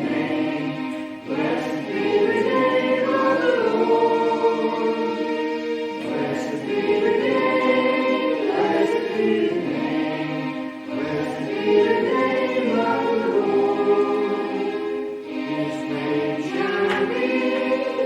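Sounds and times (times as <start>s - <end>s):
congregation singing a hymn: 0.0s - 18.0s.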